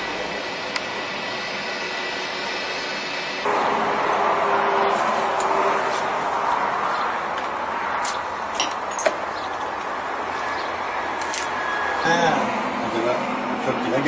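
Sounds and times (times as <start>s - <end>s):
distant jet engine rushing: 0.0s - 14.0s.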